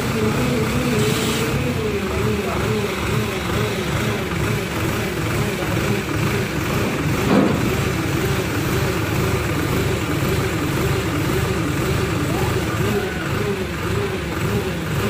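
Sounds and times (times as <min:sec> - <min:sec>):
crane diesel engine running: 0:00.0 - 0:15.0.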